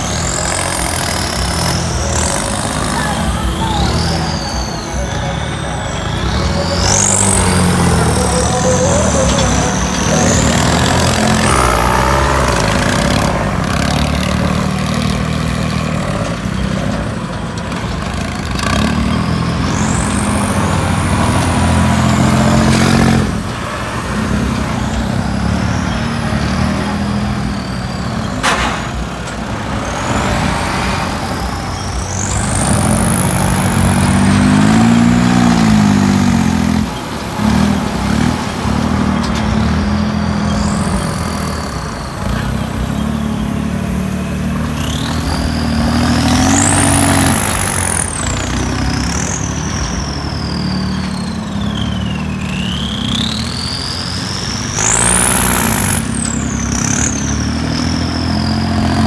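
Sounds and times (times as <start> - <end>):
high whistling glides: 0.0 - 17.5, 18.2 - 59.0
tractor diesel engines: 0.0 - 59.0.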